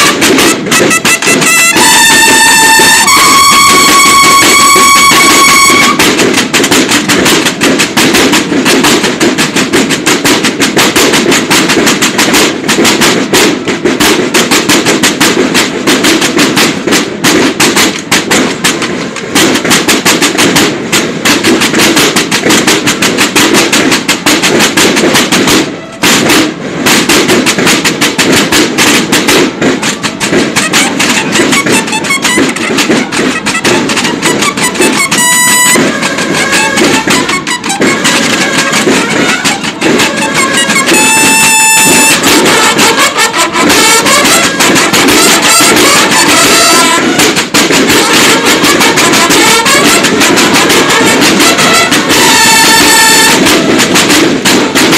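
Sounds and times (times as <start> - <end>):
bugles: 0.0 - 54.9
snare drum cadence: 0.0 - 54.9.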